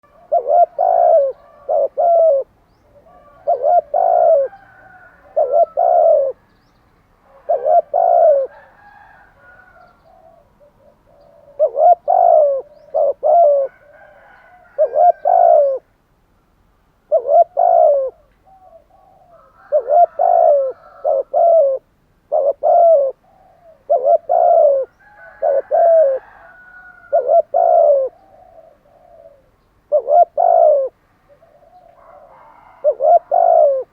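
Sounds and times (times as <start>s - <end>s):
dove cooing: 0.0s - 6.5s, 7.2s - 15.9s, 17.1s - 33.9s
small birds twittering: 0.0s - 8.6s, 9.4s - 15.9s, 17.2s - 33.9s.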